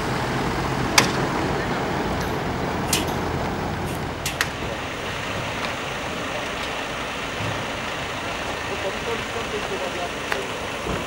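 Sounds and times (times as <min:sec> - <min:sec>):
diesel lorry engine rumbling: 0:00.0 - 0:11.0.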